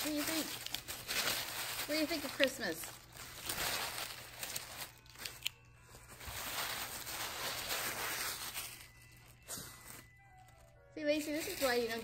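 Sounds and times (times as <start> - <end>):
tissue paper crinkling and rustling: 0.0 - 12.0.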